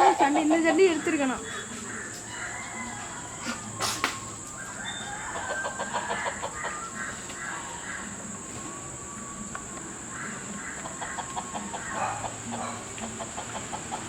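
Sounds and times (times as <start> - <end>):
chickens clucking: 0.0 - 14.0
steady high hiss: 0.0 - 14.0.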